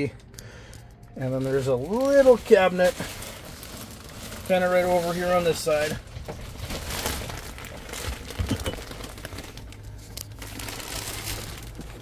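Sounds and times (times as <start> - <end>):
low steady hum: 0.0 - 12.0
plastic wrapping crinkling: 1.0 - 12.0.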